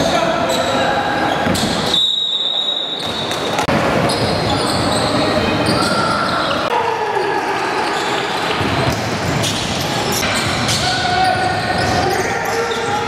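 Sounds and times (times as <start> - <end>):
voices of players and spectators: 0.0 - 13.0.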